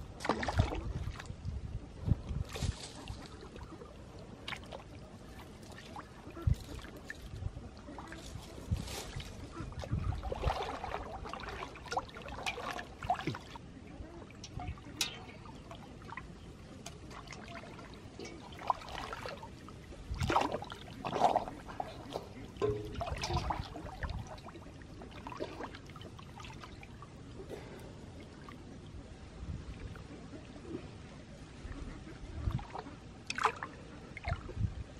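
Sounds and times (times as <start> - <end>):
water sloshing and splashing: 0.0 - 34.9.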